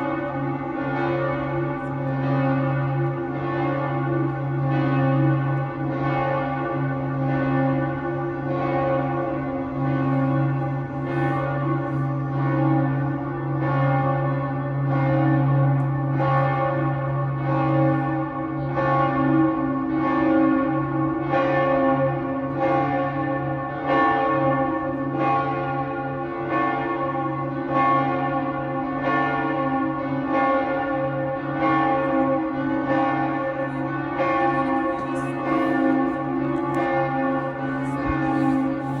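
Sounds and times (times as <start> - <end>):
church bells ringing: 0.0 - 39.0.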